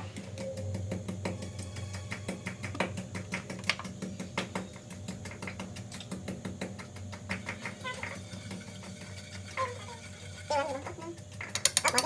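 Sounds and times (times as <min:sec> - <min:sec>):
steady low hum: 0:00.0 - 0:12.0
oil crackling in a wok: 0:01.1 - 0:12.0.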